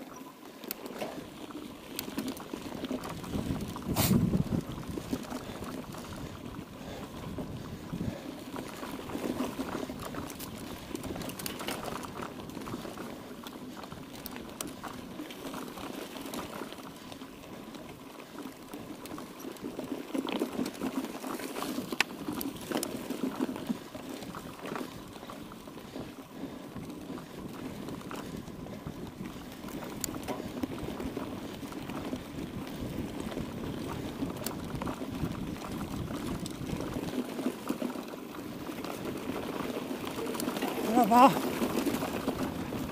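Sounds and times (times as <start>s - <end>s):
bike rattling and clicking: 0.0s - 42.9s
bike tyres crunching on trail: 0.0s - 42.9s.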